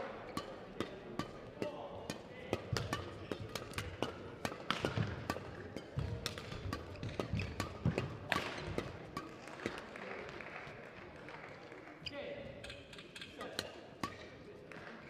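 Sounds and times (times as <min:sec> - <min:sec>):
rackets hitting shuttlecock: 0:00.0 - 0:10.8, 0:12.6 - 0:15.0.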